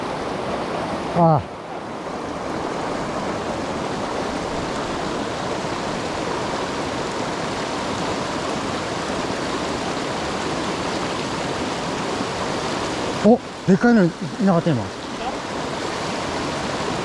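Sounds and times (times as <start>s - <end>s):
stream water rushing over rocks: 0.0s - 17.0s.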